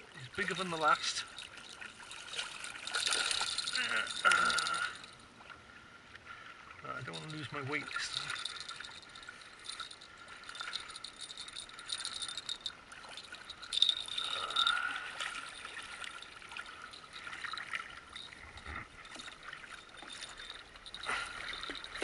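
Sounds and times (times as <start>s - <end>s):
water sloshing around a kayak: 0.0s - 22.0s
fishing tackle clicking and rattling: 0.2s - 5.2s, 7.0s - 22.0s.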